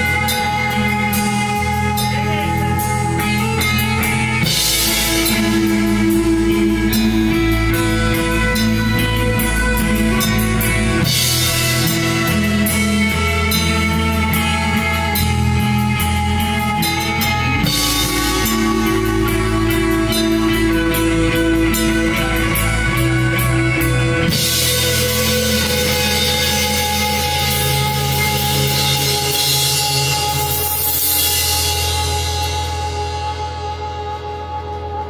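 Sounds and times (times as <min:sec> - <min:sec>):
cymbals ringing: 0:00.0 - 0:34.0
distorted electric guitars: 0:00.0 - 0:35.0
drum kit: 0:00.0 - 0:35.0.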